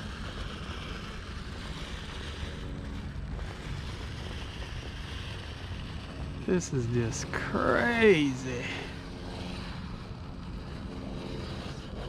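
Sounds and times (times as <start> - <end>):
electric motor and gears whirring: 0.0 - 12.0
wind rumble on microphone: 0.0 - 12.0.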